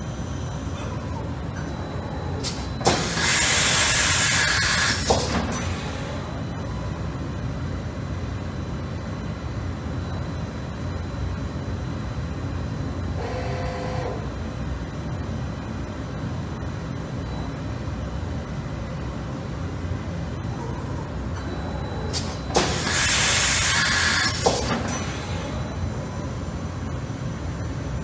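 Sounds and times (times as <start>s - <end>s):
machine running with low hum: 0.0s - 28.0s.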